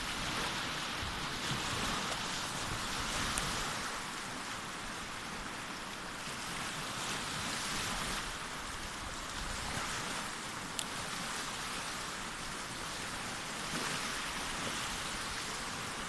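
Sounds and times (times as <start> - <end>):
sea surf washing on shore: 0.0 - 16.0.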